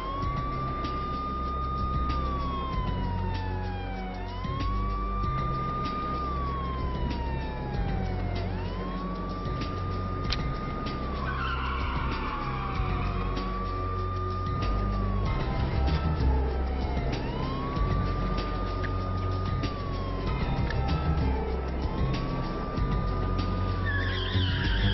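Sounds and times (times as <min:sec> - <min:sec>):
police siren wailing: 0:00.0 - 0:24.9
steady low rumble: 0:00.0 - 0:24.9.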